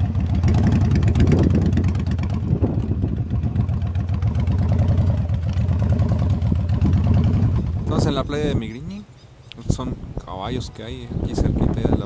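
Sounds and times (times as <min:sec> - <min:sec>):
wind noise: 0:00.0 - 0:08.8, 0:09.6 - 0:12.0
motorcycle engine rumbling: 0:00.0 - 0:12.0
rough road noise: 0:00.0 - 0:12.0.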